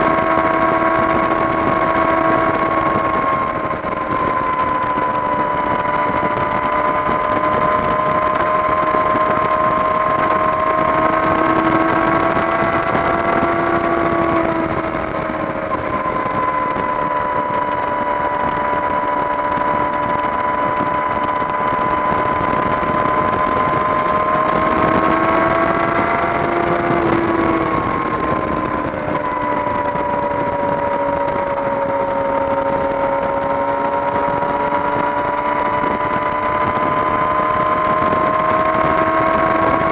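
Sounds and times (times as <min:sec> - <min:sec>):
motorcycle engine cruising: 0:00.0 - 0:39.9
rushing wind noise: 0:00.0 - 0:39.9.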